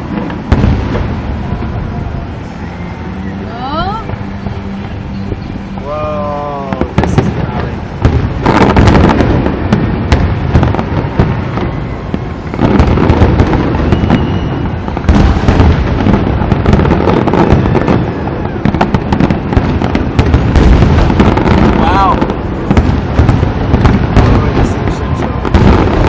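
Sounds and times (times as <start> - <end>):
fireworks booming and crackling: 0.0 - 26.0.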